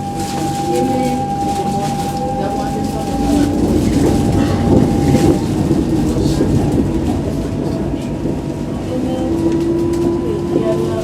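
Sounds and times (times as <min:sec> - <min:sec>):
steady whine: 0:00.0 - 0:11.0
tram wheels clattering on rails: 0:00.0 - 0:11.0.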